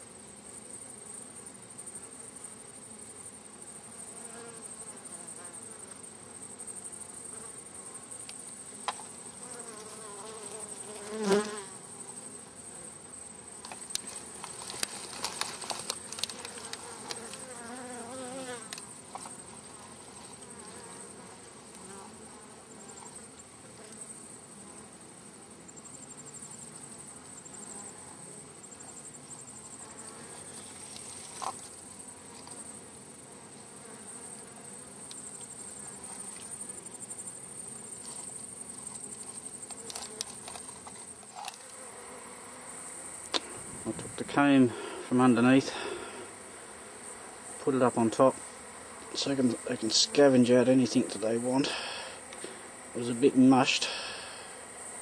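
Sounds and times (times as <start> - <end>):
bees buzzing: 0.1 - 55.0.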